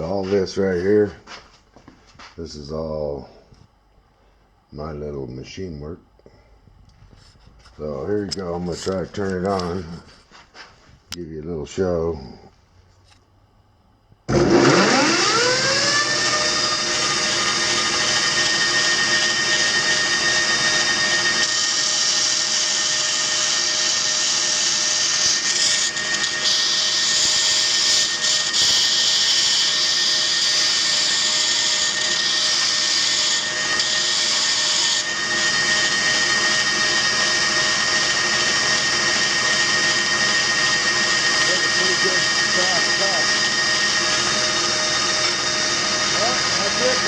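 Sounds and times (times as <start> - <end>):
belt sander whine: 0.0 - 47.0.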